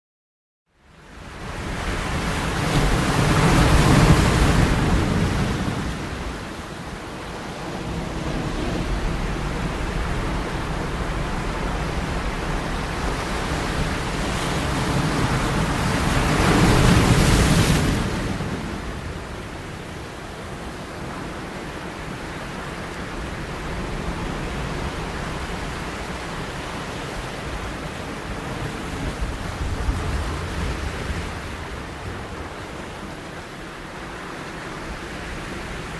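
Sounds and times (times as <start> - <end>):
sea waves breaking: 1.7 - 35.9.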